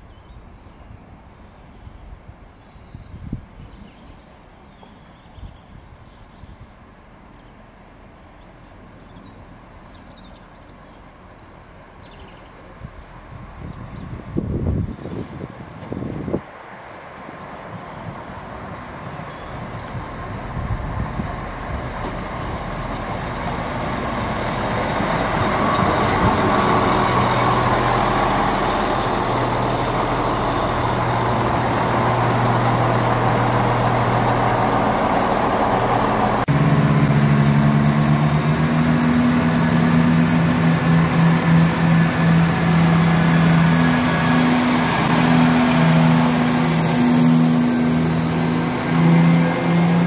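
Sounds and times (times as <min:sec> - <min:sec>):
diesel train passing: 0:04.0 - 0:50.0.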